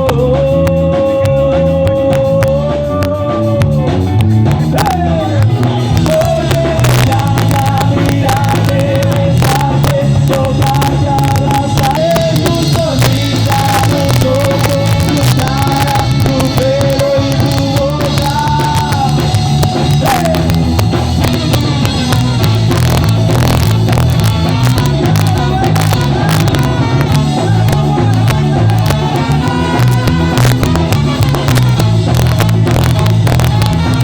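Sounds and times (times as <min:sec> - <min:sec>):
drum kit: 0:00.0 - 0:34.0
live ska band playing: 0:00.0 - 0:34.0
pulsing bass line: 0:00.0 - 0:34.0.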